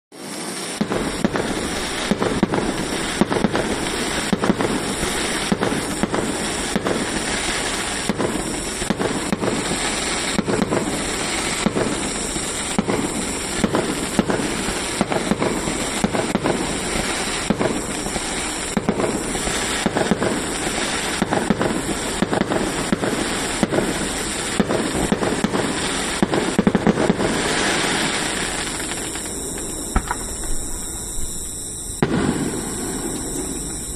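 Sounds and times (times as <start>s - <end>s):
fireworks bangs and crackles: 0.1s - 33.9s.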